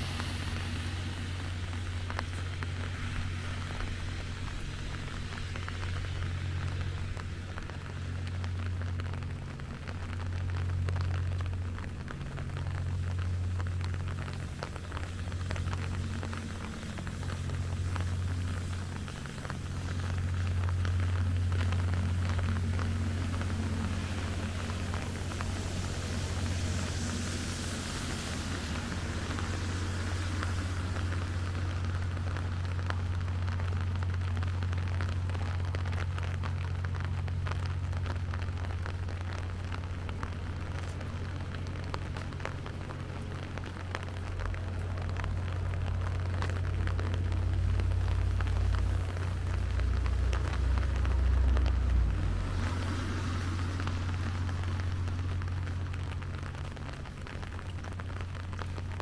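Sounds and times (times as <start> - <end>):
deep low rumble: 0.0 - 59.0
rain pattering: 0.0 - 59.0
steady low hum: 0.0 - 59.0.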